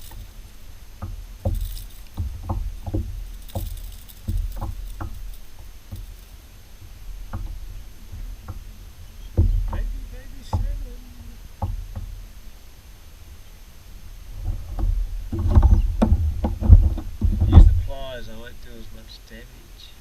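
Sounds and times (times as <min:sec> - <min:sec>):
paddle knocking on hull: 0:00.0 - 0:12.4, 0:14.4 - 0:18.2.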